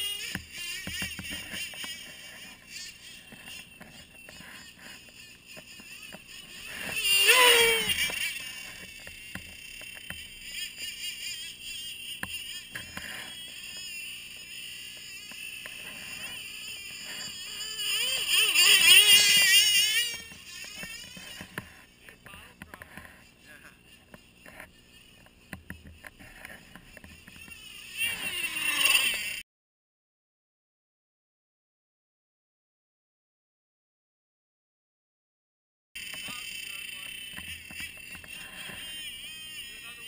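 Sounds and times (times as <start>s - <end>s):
toy snowmobile motor whining: 0.0s - 29.4s, 36.0s - 40.0s.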